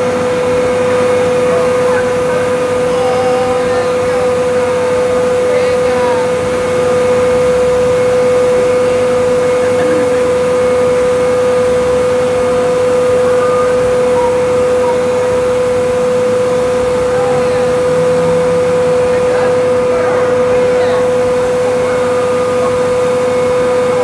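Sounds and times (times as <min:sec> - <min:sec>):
constant whine: 0:00.0 - 0:24.0
fire truck mechanical drone: 0:00.0 - 0:24.0.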